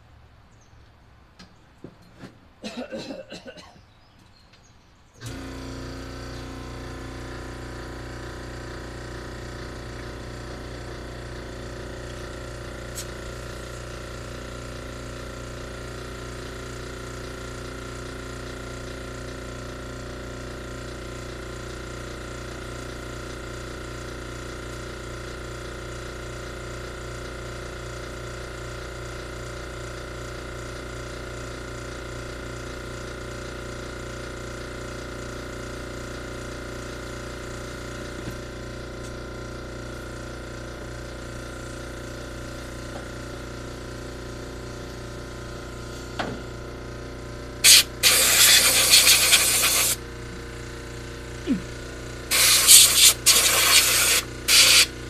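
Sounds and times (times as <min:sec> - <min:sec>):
machine humming and rattling: 0:05.2 - 0:55.0.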